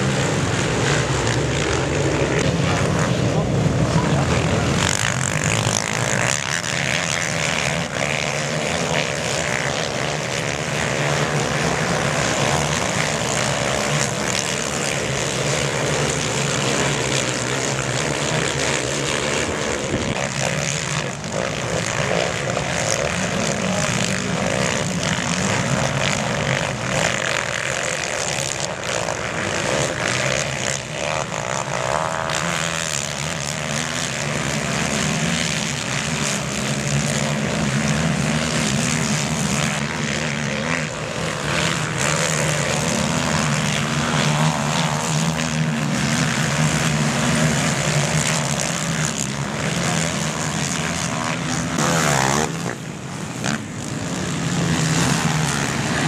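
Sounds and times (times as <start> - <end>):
racing quad engines droning: 0.0 - 56.0.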